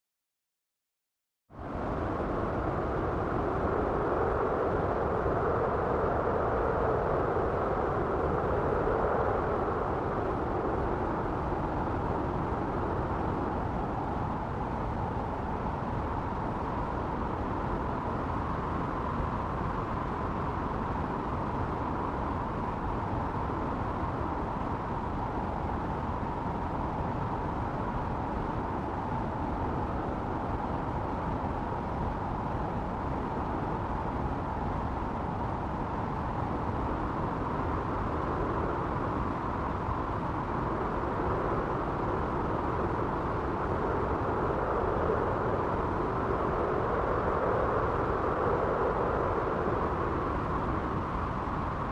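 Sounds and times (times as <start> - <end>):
wind blowing steadily: 1.5 - 51.9.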